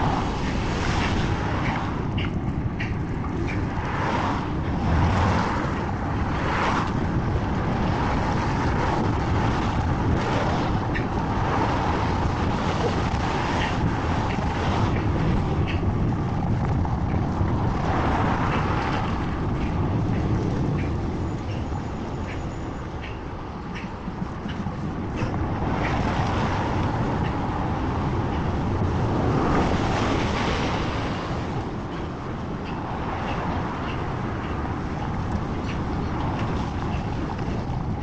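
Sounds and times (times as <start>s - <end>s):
cars passing: 0.0s - 38.0s
wind noise on microphone: 0.0s - 38.0s.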